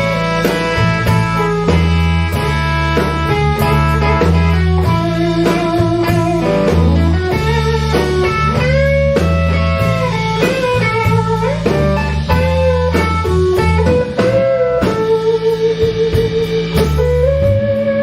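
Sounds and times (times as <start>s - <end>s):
bass line: 0.0s - 18.0s
electric lead guitar: 0.0s - 18.0s
steady drum beat: 0.0s - 18.0s.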